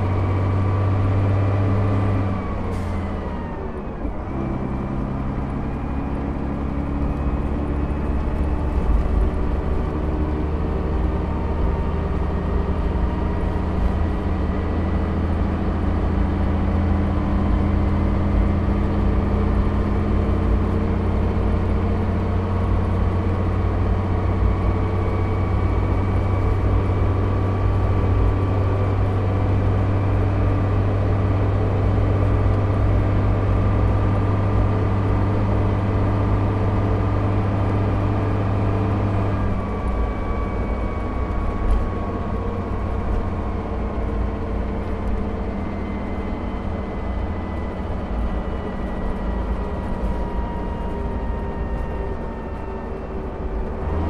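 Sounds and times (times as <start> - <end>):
bus diesel engine under load: 0.0 - 54.0
road noise: 0.0 - 54.0.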